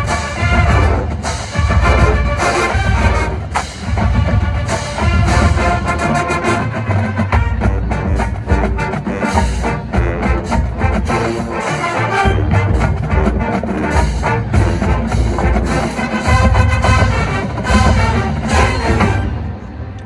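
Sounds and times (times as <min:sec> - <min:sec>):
brass chords: 0:00.0 - 0:20.0.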